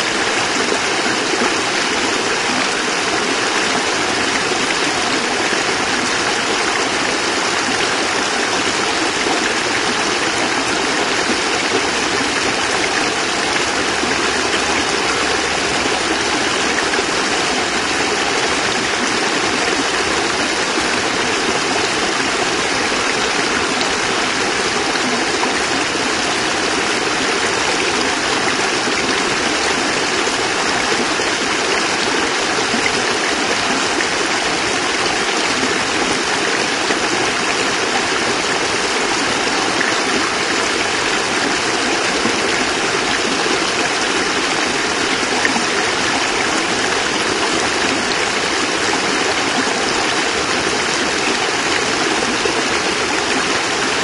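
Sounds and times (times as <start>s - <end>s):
water cascade splashing: 0.0s - 54.0s.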